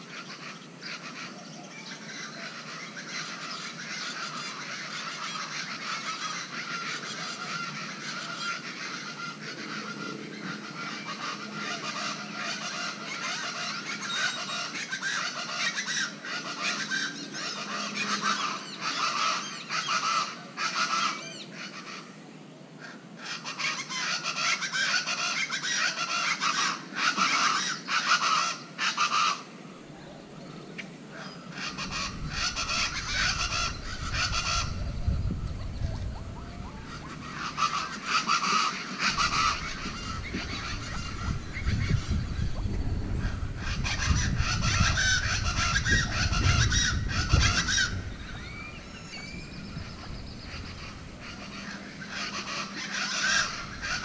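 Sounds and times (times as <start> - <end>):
birds calling in chorus: 0.0 - 54.0.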